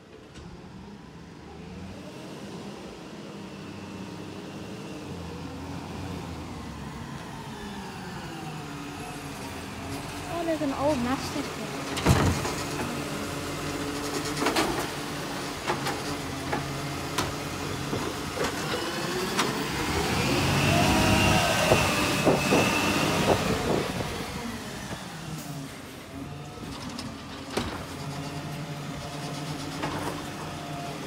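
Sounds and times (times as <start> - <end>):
diesel truck engine: 0.0 - 31.0.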